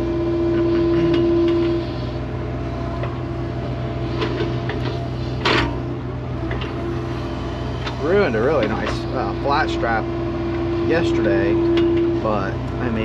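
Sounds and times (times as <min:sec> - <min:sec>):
diesel engine running: 0:00.0 - 0:13.0
hydraulic whine: 0:00.0 - 0:13.0.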